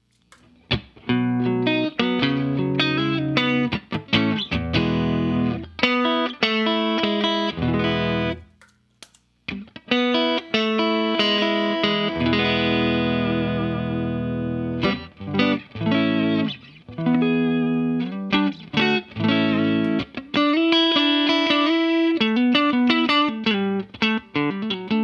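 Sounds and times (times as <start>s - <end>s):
clean electric guitar: 0.3s - 8.7s, 9.5s - 25.0s.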